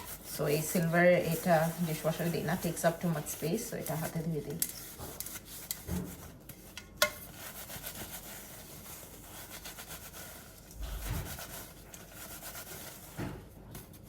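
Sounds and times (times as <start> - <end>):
metal pot being scrubbed: 0.0 - 13.3.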